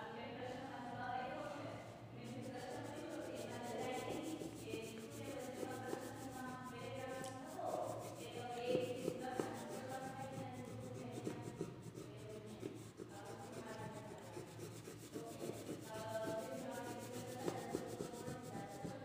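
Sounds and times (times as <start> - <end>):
crayon scribbling on paper: 2.3 - 19.0.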